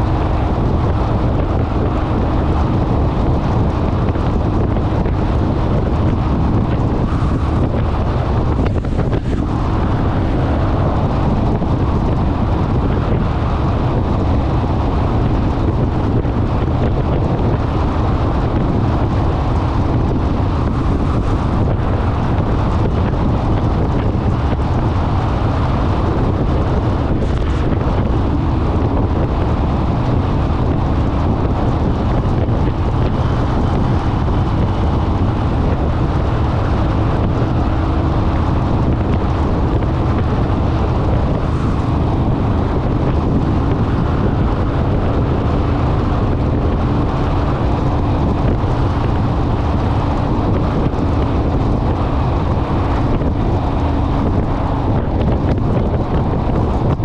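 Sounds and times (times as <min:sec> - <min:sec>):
motorcycle engine humming: 0:00.0 - 0:57.0
wind buffeting microphone: 0:00.0 - 0:57.0.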